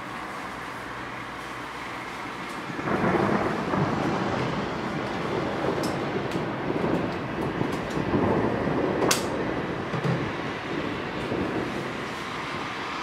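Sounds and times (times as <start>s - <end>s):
thunder rumbling: 2.3s - 13.0s.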